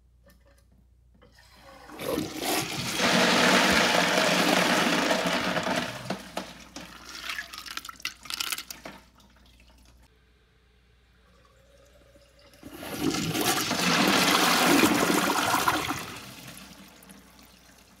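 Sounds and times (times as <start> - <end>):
toilet flushing: 1.3 - 10.1, 11.0 - 18.0.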